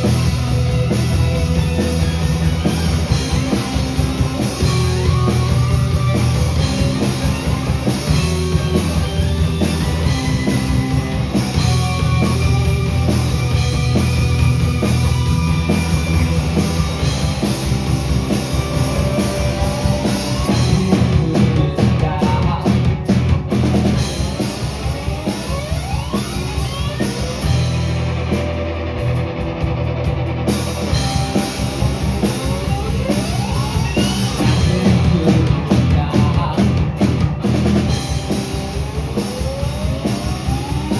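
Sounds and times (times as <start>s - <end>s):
bass guitar: 0.0s - 40.9s
drum kit and cymbals: 0.0s - 40.9s
electric guitar: 0.0s - 40.9s.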